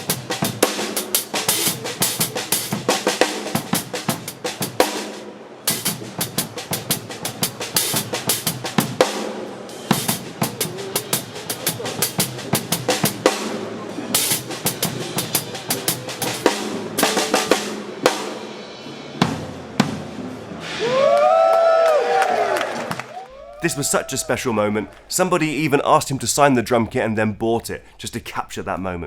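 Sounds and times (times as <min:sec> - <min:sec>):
drum kit groove: 0:00.0 - 0:20.6, 0:23.6 - 0:29.0.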